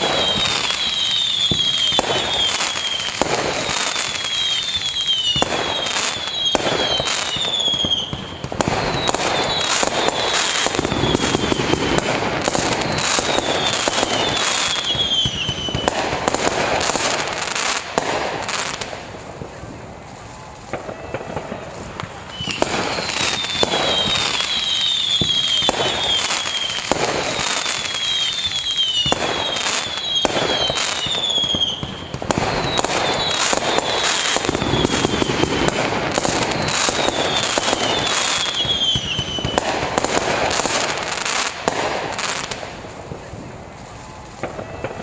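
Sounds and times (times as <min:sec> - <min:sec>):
fireworks whistles falling in pitch: 0:00.0 - 0:18.9, 0:20.6 - 0:45.0
fireworks bangs and crackles: 0:00.0 - 0:45.0.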